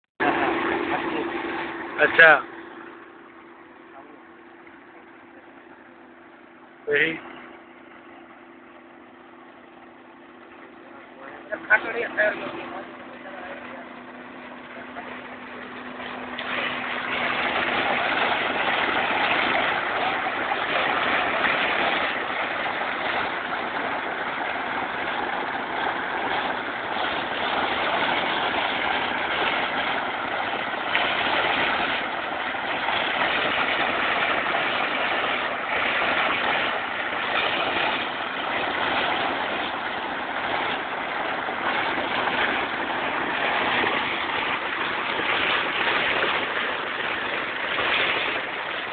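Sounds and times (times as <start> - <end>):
water gushing from a pipe: 0.2 - 48.9.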